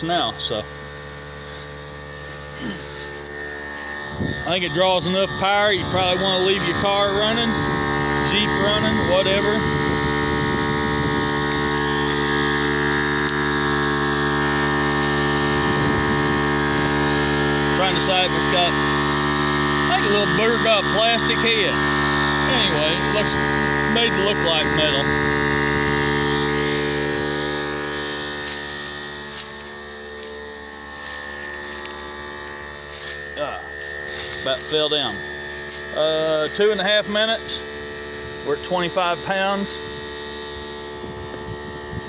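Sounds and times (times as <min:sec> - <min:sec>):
air compressor running: 0:00.0 - 0:42.0.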